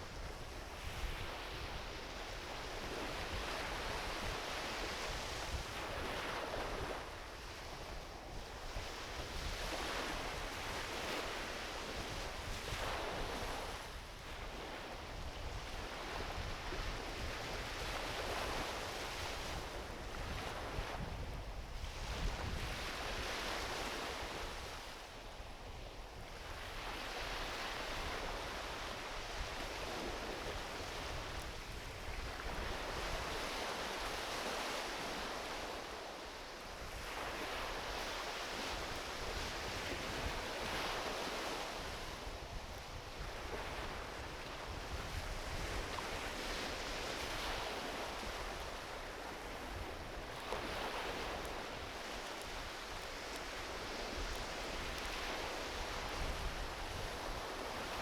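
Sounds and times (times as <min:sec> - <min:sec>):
wind rumble on microphone: 0:00.0 - 0:36.1, 0:36.7 - 0:58.0
small waves washing onto beach: 0:00.0 - 0:58.0.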